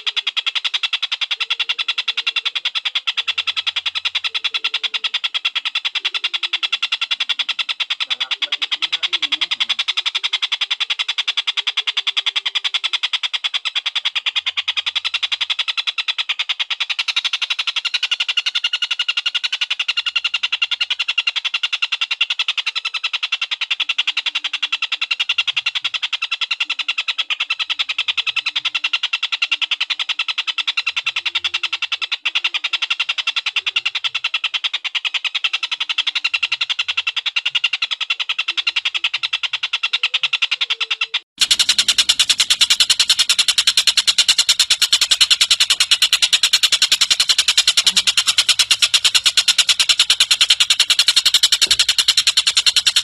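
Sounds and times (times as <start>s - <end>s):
kingfisher rattling call: 0.0s - 53.0s.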